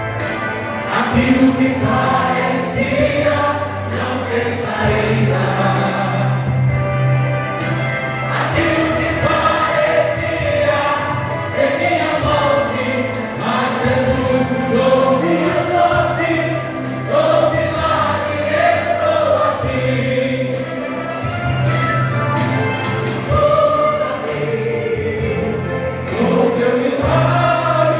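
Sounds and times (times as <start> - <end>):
vocal group singing gospel: 0.6 - 27.9.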